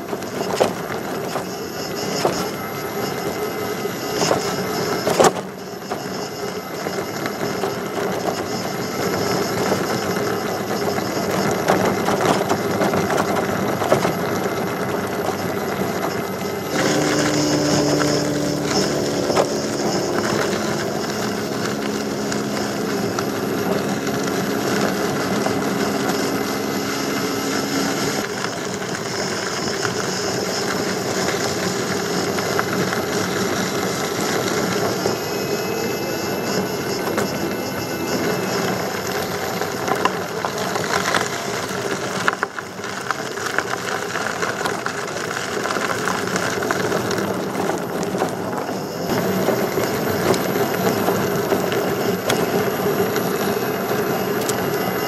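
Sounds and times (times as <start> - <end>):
hub motor whine: 0.0 - 55.0
tyre noise on dirt trail: 0.0 - 55.0.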